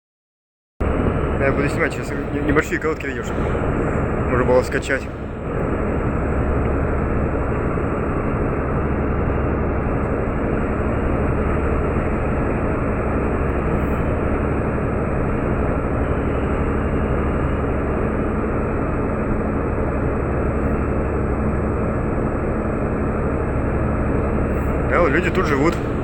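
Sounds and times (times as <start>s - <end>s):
diesel engines droning: 0.8s - 26.0s.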